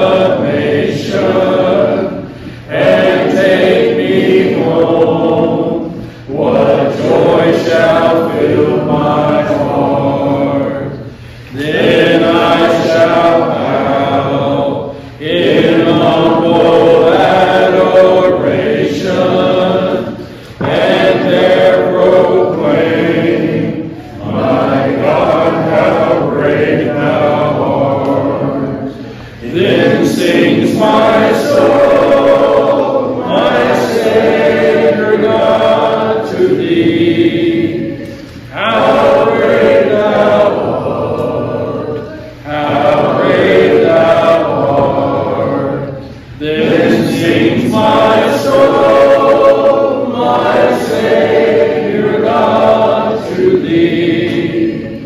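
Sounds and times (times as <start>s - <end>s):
group singing a hymn: 0.0s - 55.0s.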